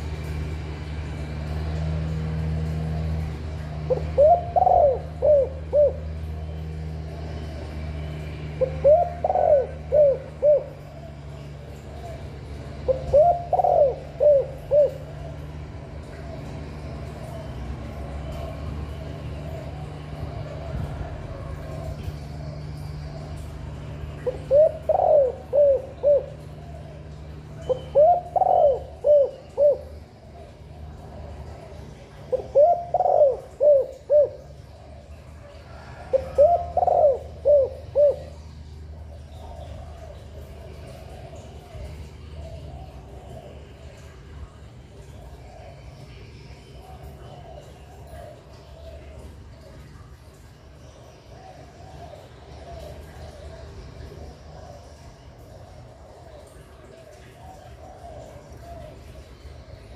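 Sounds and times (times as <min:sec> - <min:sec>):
dove cooing: 0:01.2 - 0:59.9.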